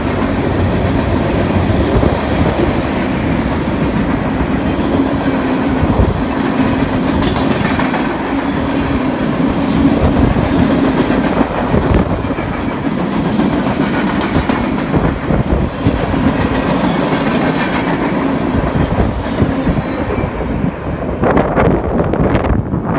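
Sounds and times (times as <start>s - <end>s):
wheels clacking over rail joints: 0.0s - 20.2s
freight train wheels rumbling: 0.0s - 22.9s.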